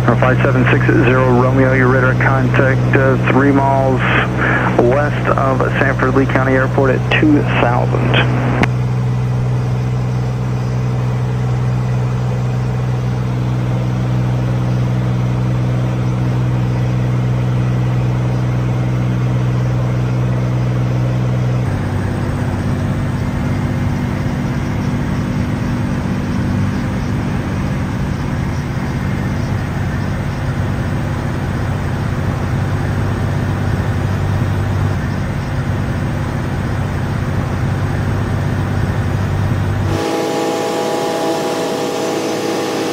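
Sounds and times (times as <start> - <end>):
aircraft engine droning in cabin: 0.0 - 42.9.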